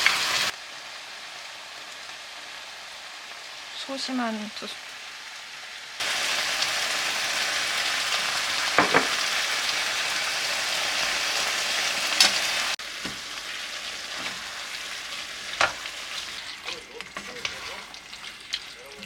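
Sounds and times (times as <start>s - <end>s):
food sizzling in a hot pan: 0.0s - 19.0s.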